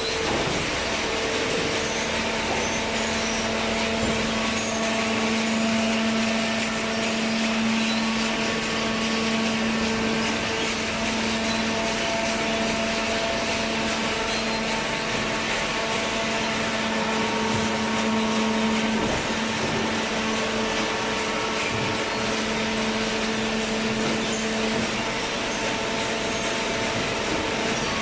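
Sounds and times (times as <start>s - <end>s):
electric motor and pump humming: 0.0s - 28.0s.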